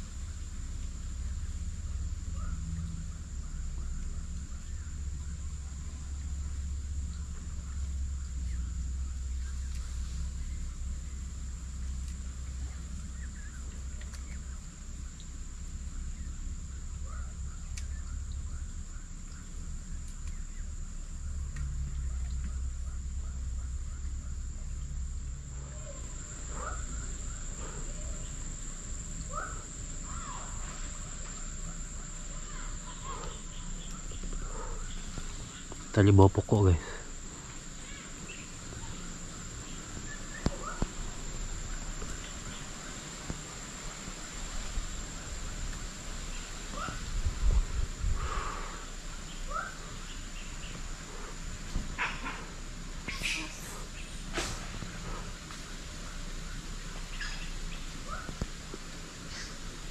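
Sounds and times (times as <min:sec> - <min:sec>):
insects trilling: 0:00.0 - 0:59.9
faint bird chirps: 0:01.2 - 0:58.4.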